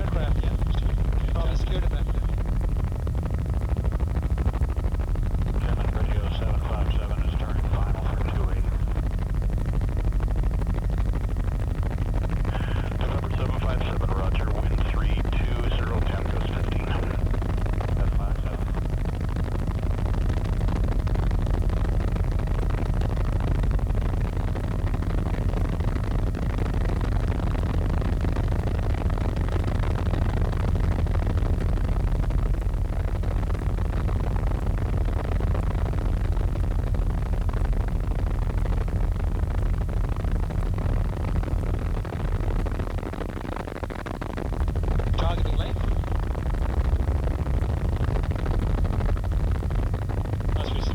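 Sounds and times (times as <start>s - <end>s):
helicopter engine and rotor rumble: 0.0s - 50.9s.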